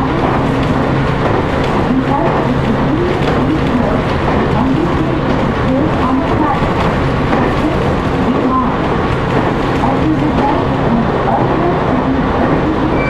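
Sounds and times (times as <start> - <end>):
electric train inverter whine: 0.0 - 13.0
train wheels on rail: 0.0 - 13.0.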